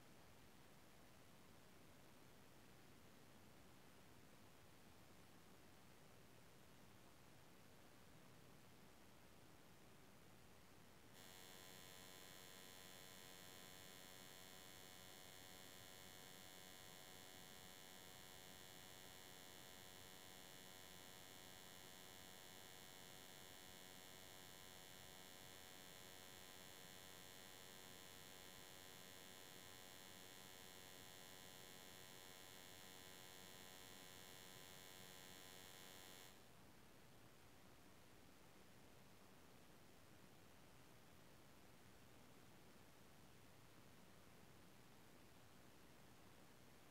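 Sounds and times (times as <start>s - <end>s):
faint electrical hum: 0.0s - 46.9s.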